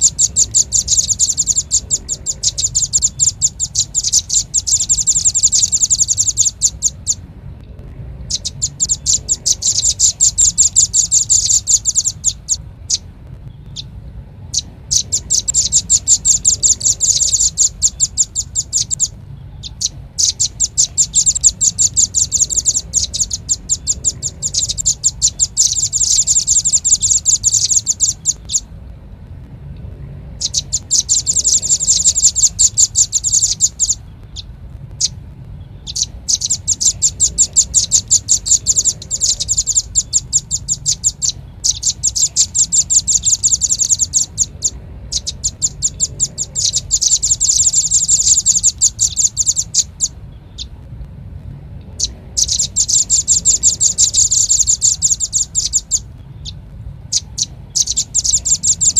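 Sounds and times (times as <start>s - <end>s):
bird calling in rapid trills: 0.0s - 7.3s, 8.1s - 28.8s, 30.3s - 50.9s, 51.9s - 58.9s.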